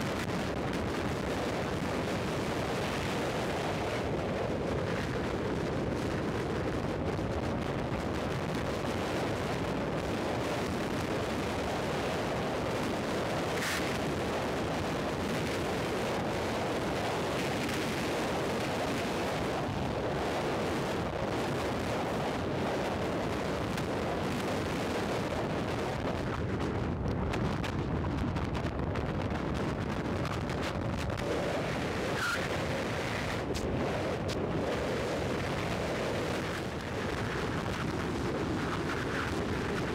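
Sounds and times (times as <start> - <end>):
heavy wind rush on microphone: 0.0 - 39.9.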